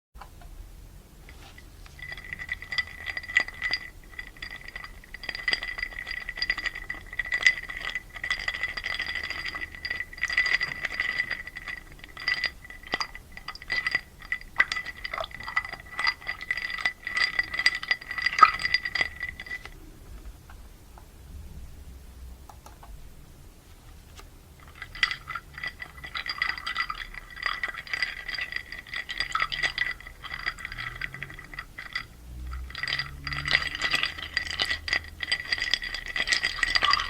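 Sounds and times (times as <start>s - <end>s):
ice cubes clinking in glass: 1.4s - 19.7s, 24.6s - 37.0s
glass ringing: 1.9s - 19.8s, 24.6s - 37.0s.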